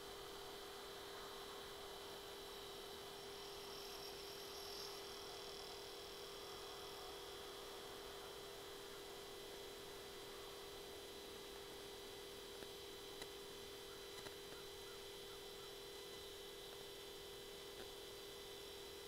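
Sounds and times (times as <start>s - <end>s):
faint electronic hum: 0.0s - 19.0s.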